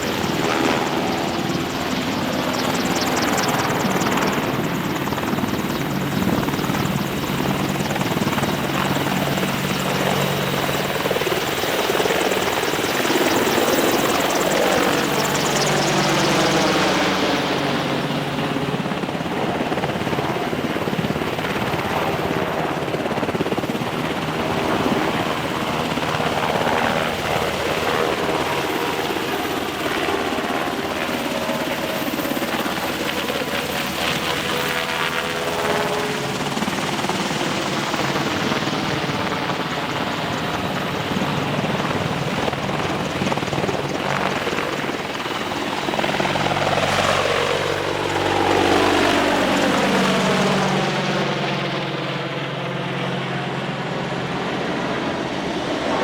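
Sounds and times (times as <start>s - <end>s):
helicopter engines and rotor: 0.0s - 56.0s.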